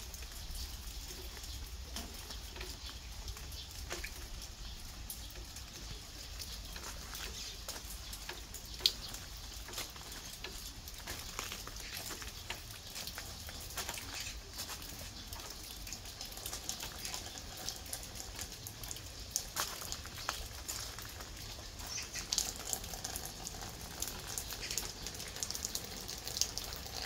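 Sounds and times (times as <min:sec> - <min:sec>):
light ticks and taps: 0:00.1 - 0:27.0.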